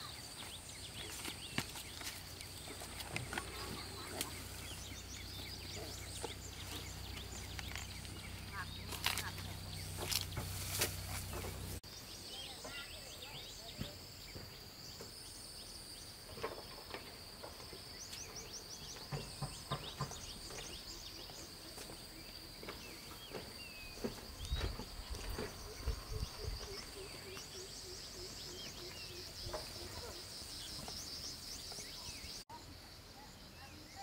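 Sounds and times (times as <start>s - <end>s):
bird chirps: 0.0s - 17.0s, 17.7s - 32.4s.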